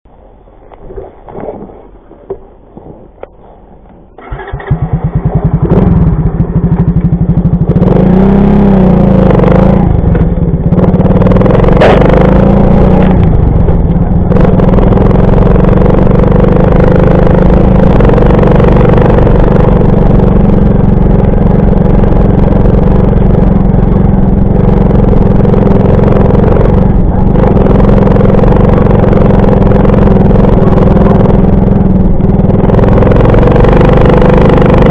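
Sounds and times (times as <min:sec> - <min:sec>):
moped engine starting and running: 0:04.1 - 0:34.9.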